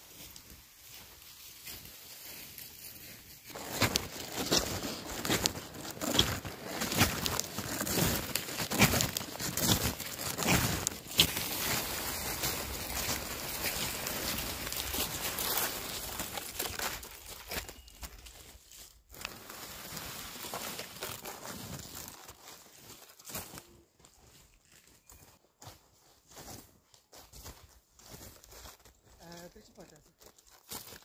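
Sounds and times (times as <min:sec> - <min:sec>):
footsteps crunching through snow: 0:00.0 - 0:31.0.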